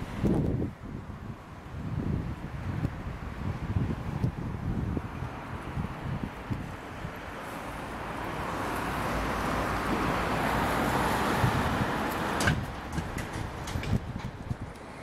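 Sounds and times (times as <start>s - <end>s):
car passing: 2.4s - 15.0s.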